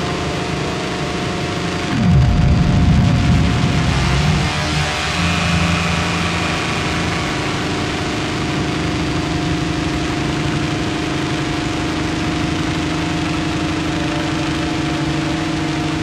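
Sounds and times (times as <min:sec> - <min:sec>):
steady droning tones: 0:00.0 - 0:16.0.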